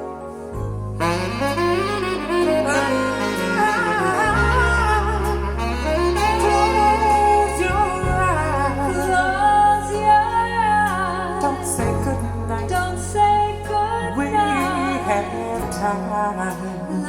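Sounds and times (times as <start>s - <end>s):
slow ballad over loudspeakers: 0.0s - 17.0s.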